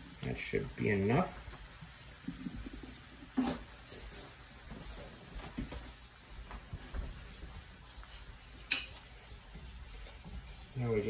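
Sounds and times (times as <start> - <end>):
fat sizzling in a skillet: 0.0 - 11.0.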